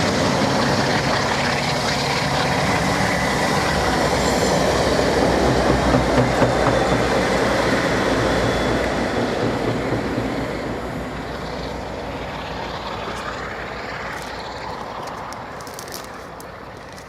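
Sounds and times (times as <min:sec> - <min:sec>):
diesel locomotive engine under load: 0:00.0 - 0:17.0
train rolling noise: 0:00.0 - 0:17.0.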